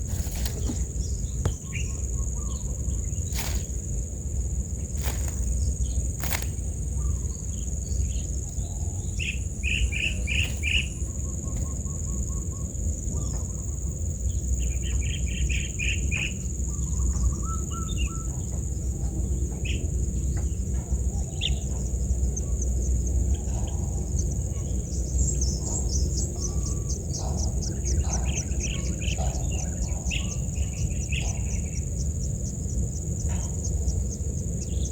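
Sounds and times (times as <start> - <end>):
birds chirping: 0.0 - 34.9
insect drone: 0.0 - 34.9
low rumble of wind: 0.0 - 34.9.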